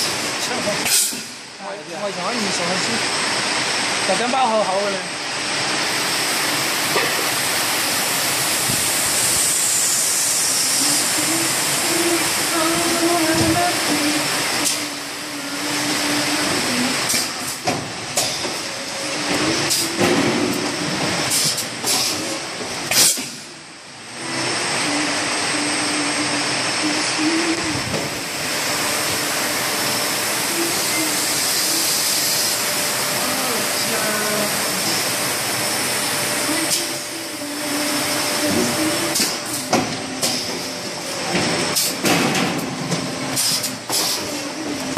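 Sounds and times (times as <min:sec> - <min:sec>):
machinery hiss: 0:05.0 - 0:44.9.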